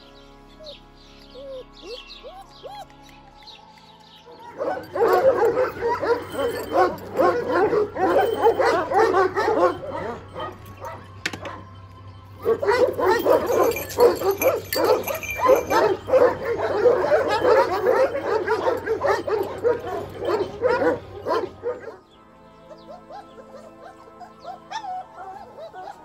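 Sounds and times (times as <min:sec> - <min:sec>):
soft background music: 0:00.0 - 0:26.0
dogs barking: 0:04.2 - 0:22.0, 0:22.6 - 0:26.0.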